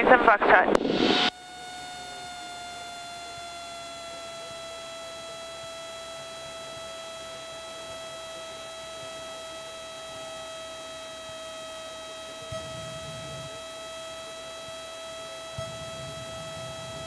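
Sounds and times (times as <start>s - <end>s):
electrical whine: 0.0s - 17.0s.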